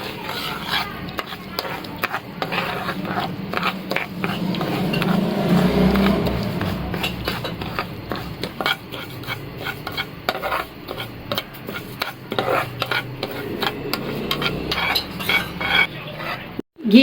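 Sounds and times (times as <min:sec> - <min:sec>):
spoon scraping a pan: 0:00.0 - 0:16.6.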